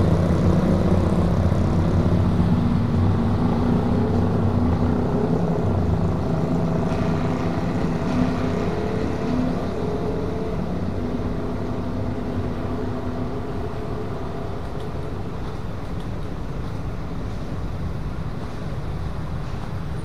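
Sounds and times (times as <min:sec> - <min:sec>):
car engines: 0:00.0 - 0:20.0.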